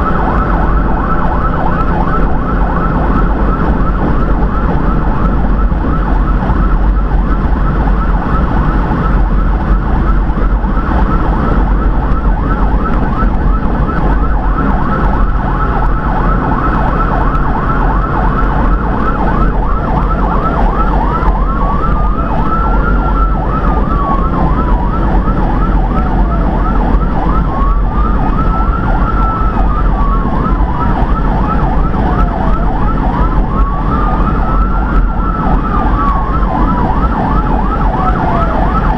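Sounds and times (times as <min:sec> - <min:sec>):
engine and road noise: 0:00.0 - 0:38.9
siren wail: 0:00.0 - 0:38.9
siren yelp: 0:00.0 - 0:38.9.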